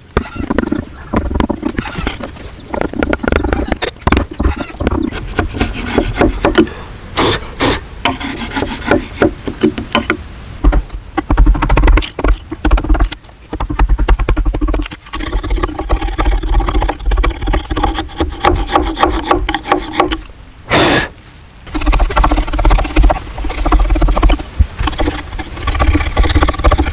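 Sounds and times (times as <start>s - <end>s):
tool scraping wood: 0.0s - 21.1s, 21.7s - 26.9s.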